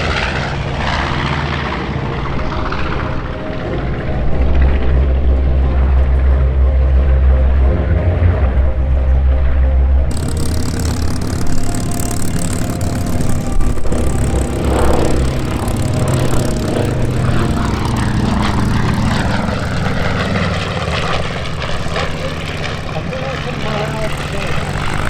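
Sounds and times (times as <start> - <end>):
propeller plane engines droning: 0.0 - 25.0.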